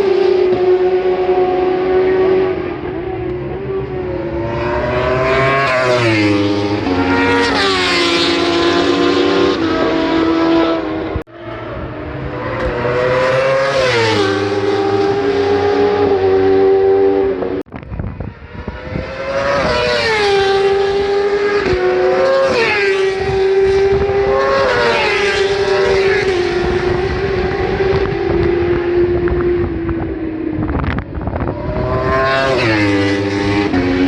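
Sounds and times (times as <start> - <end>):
racing motorcycles at full throttle: 0.0 - 34.0.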